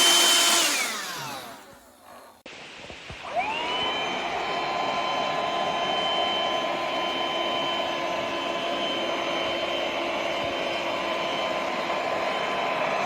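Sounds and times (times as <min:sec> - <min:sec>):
handheld vacuum running: 0:00.0 - 0:13.0.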